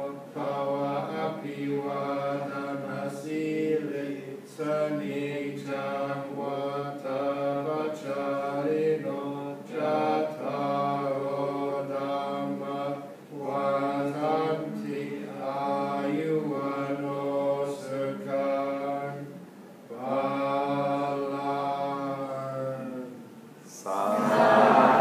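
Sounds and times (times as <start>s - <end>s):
monks chanting: 0.0s - 19.3s, 19.9s - 23.2s, 23.8s - 25.0s.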